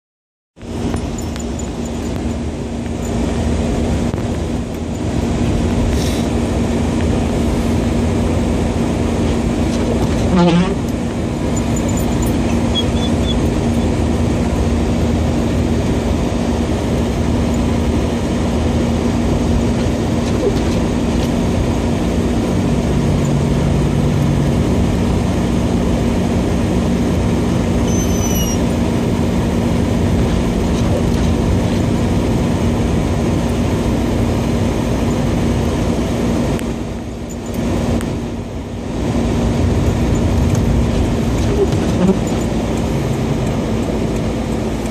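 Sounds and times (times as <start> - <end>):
car tyres and engine drone: 0.6 - 44.9.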